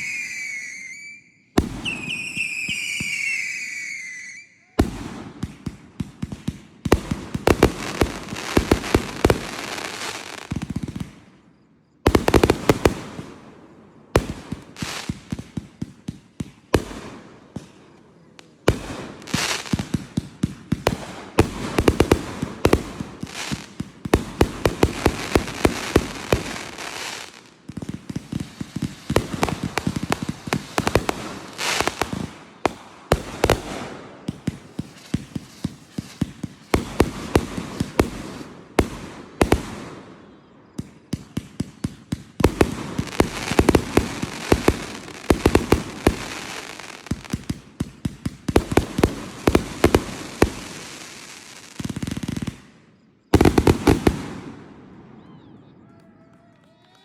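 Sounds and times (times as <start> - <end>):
fireworks crackling bangs: 1.6 - 4.0, 4.8 - 55.5.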